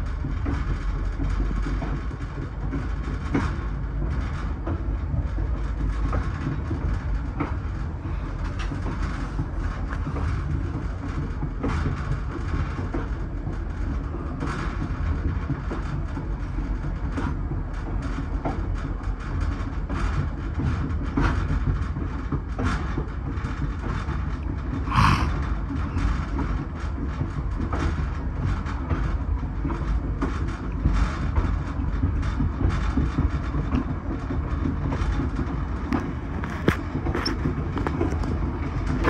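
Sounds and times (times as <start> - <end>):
train rumble: 0.0 - 39.0.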